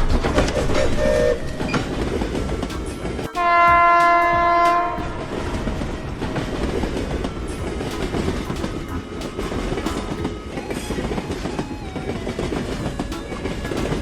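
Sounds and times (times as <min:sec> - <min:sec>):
train rumble: 0:00.0 - 0:14.0
train wheels clattering on rails: 0:01.6 - 0:14.0.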